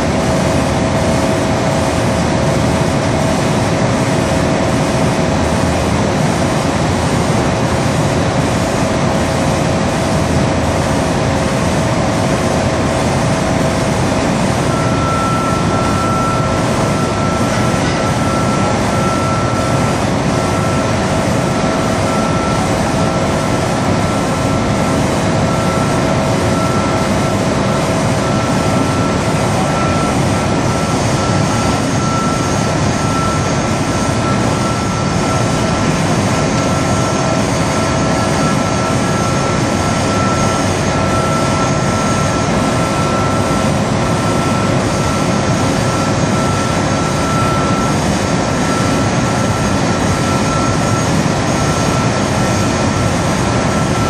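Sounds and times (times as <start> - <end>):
constant mechanical whine: 0.0 - 54.0
factory machinery drone: 0.0 - 54.0.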